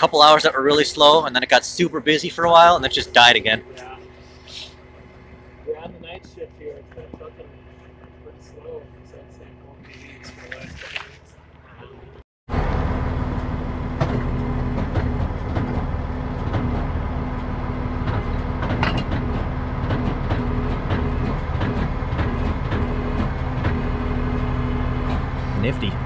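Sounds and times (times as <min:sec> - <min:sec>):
heavy truck engine idling: 0:00.0 - 0:10.0, 0:11.2 - 0:26.0.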